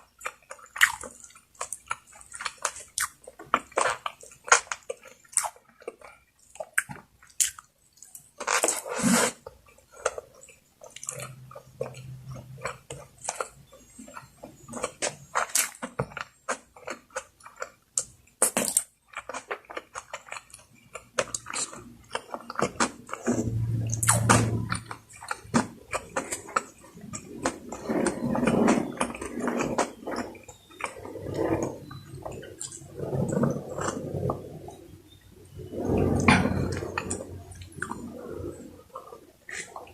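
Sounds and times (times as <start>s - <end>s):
person chewing with wet smacks: 0.0s - 39.9s.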